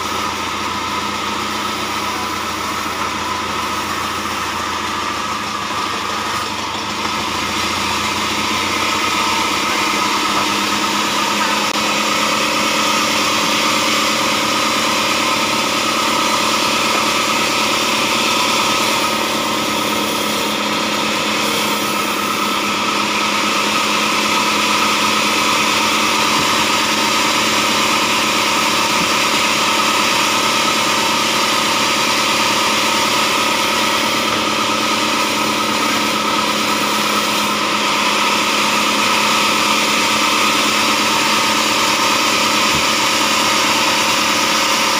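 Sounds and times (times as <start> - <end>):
band saw cutting wood: 0.0 - 44.9
diesel engine running: 0.0 - 44.9.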